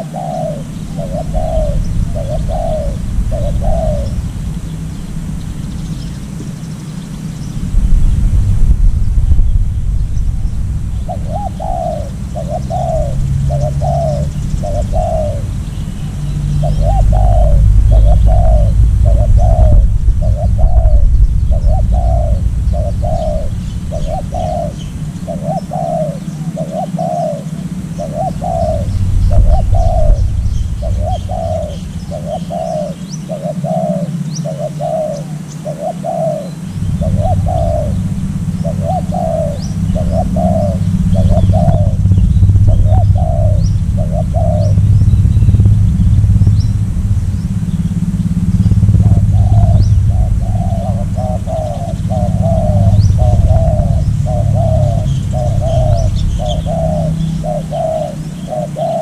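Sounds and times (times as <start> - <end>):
dove cooing: 0.0 - 7.7, 10.4 - 59.0
small birds chirping: 0.0 - 59.0
low rumble: 0.6 - 35.0, 36.5 - 59.0.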